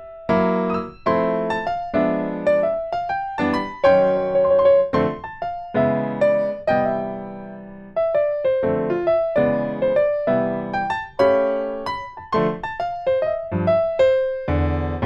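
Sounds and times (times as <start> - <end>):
gentle electric piano melody: 0.0 - 15.0.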